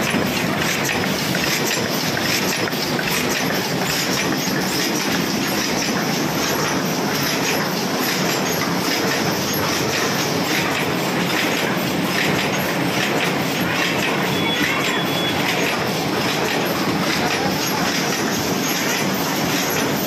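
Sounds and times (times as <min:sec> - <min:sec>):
machine clattering: 0:00.0 - 0:20.0.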